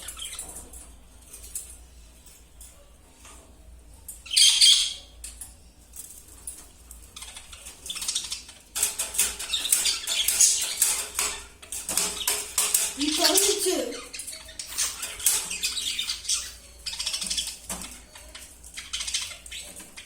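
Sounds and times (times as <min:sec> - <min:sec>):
rattling and scratching at cage: 0:00.0 - 0:20.0.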